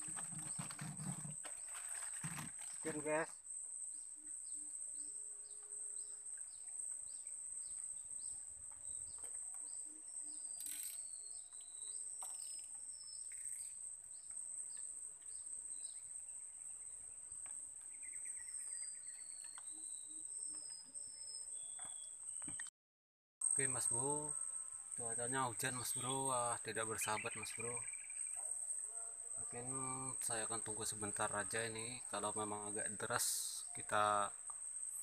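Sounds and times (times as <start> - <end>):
high insect buzz: 0.0 - 22.6, 23.4 - 33.6.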